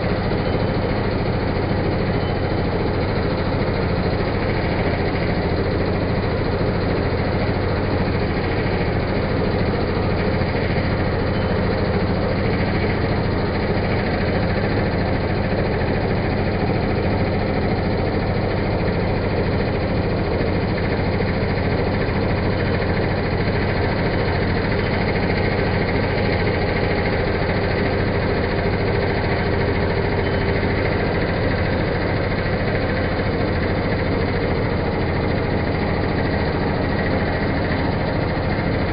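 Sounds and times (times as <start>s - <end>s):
pillar drill motor hum: 0.0s - 38.9s.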